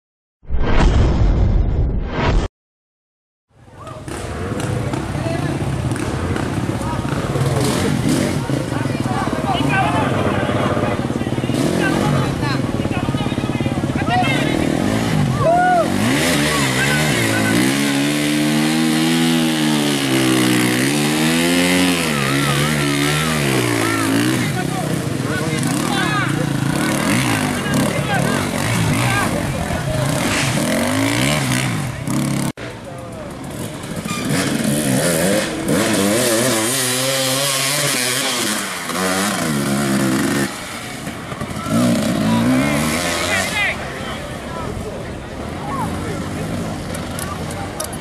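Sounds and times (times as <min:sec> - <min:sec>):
dirt bike engine revving: 0:04.0 - 0:32.6, 0:33.3 - 0:44.1.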